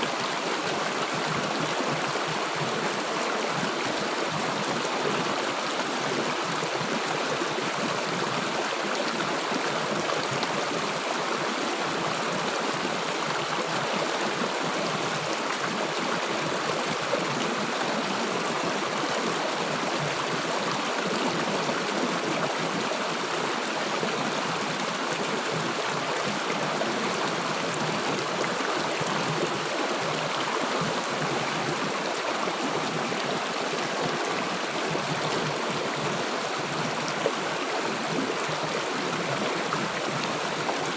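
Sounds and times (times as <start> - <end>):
river water gurgling and rushing: 0.0 - 40.9.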